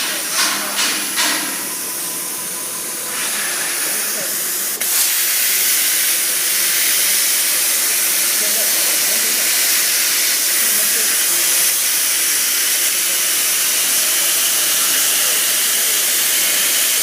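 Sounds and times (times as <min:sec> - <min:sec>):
loud steady hiss: 0:00.0 - 0:17.0.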